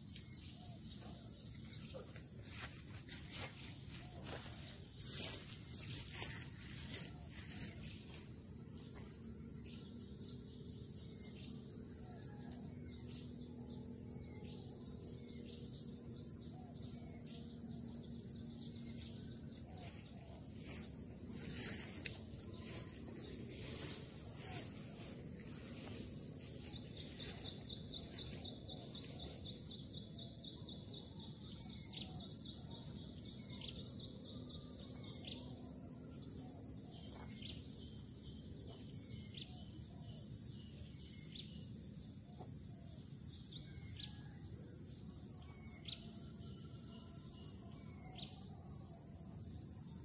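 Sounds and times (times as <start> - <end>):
high-pitched insect drone: 0.0 - 42.1.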